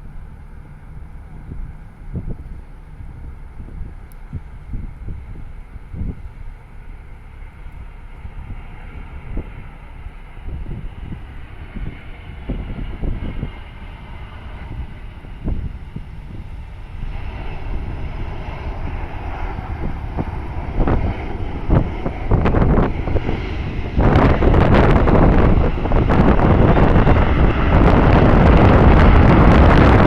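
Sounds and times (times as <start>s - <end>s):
jet engine noise: 0.0s - 30.0s
wind buffeting microphone: 0.0s - 30.0s.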